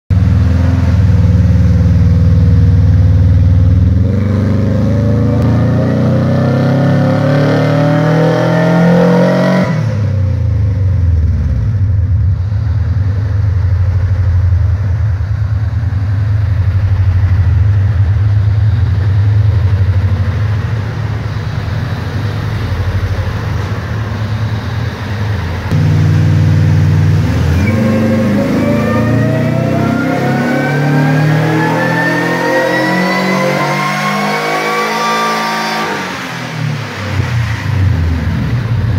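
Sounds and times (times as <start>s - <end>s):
car engine revving on dyno: 0.1s - 38.9s.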